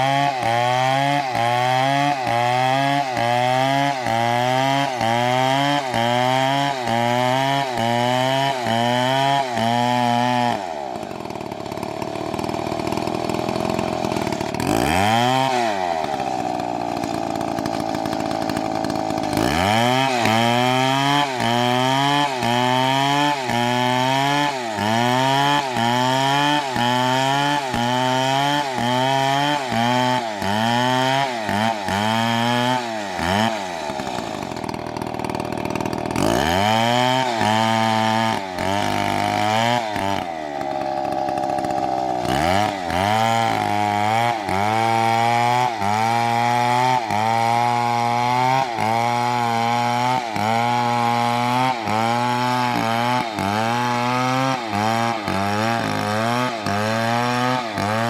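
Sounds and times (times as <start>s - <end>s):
chainsaw engine running: 0.0s - 58.0s.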